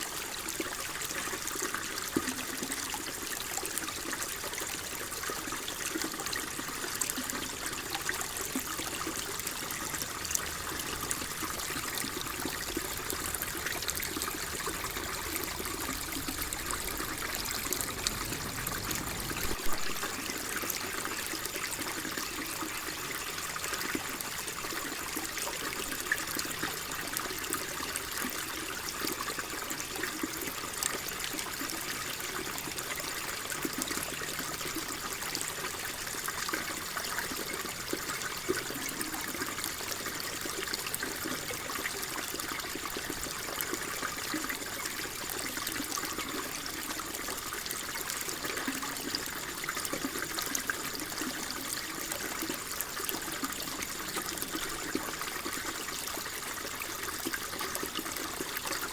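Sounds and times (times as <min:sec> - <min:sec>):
water flowing and trickling: 0:00.0 - 0:58.9
water splashes and drips: 0:00.0 - 0:58.9.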